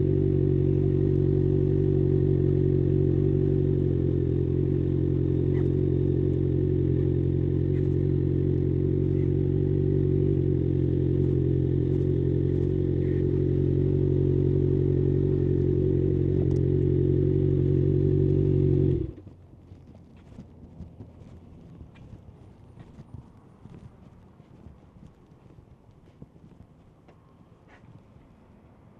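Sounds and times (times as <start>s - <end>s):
motorcycle engine idling: 0.0s - 27.4s.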